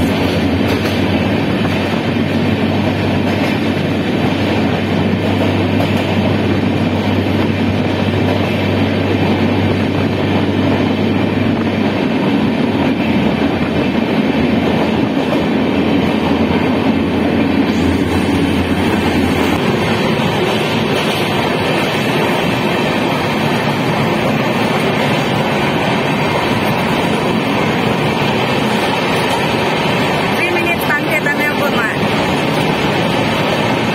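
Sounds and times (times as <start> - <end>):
train carriage rumble and rattle: 0.0 - 33.9.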